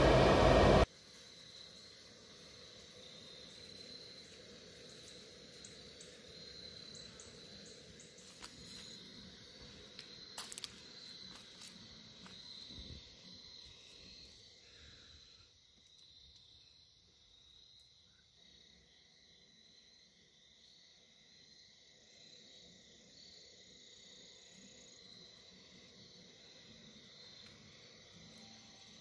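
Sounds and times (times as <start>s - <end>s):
insect chorus chirring: 0.8s - 29.0s.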